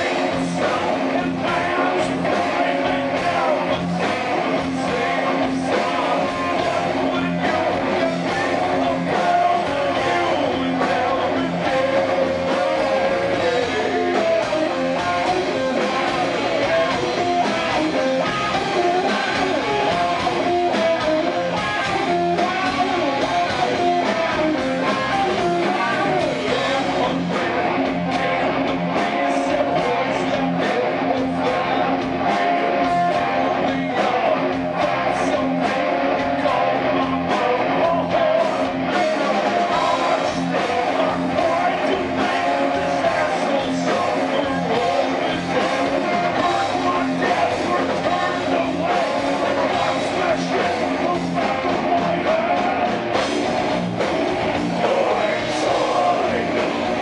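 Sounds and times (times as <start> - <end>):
person singing: 0.0 - 53.4, 54.0 - 57.0
bass guitar: 0.0 - 57.0
drum kit: 0.0 - 57.0
electric guitars: 0.0 - 57.0.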